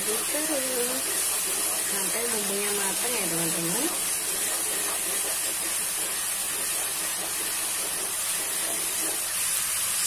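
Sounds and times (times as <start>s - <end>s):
wooden spatula stirring in wok: 0.0s - 9.8s
spice paste sizzling in hot oil: 0.0s - 10.0s.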